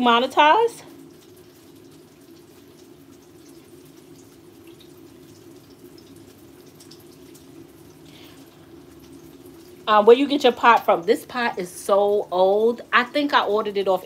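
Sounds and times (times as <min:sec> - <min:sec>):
chicken sizzling in hot oil: 0:00.0 - 0:14.0
low steady hum: 0:00.0 - 0:14.0.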